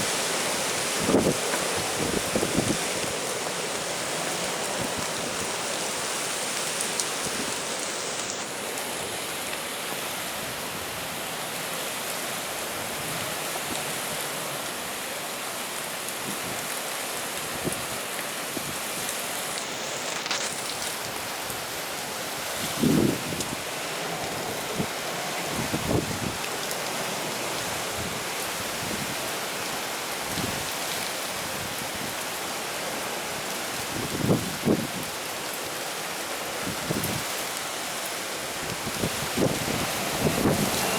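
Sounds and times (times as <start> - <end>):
rain: 0.0 - 40.9
rough sea: 0.0 - 40.9.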